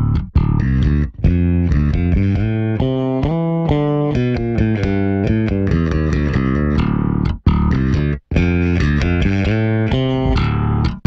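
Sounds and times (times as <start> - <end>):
bass guitar notes: 0.0 - 11.0.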